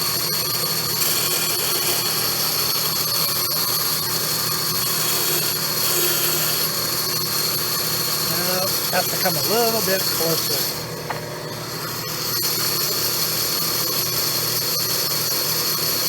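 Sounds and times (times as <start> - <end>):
bandsaw running: 0.0 - 16.0.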